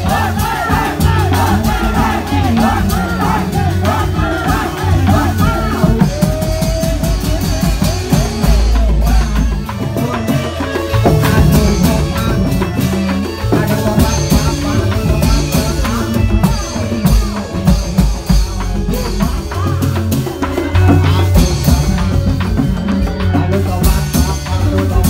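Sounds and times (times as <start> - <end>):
bass notes: 0.0 - 25.0
pounding drums: 0.0 - 25.0
wavering melody line: 0.0 - 25.0.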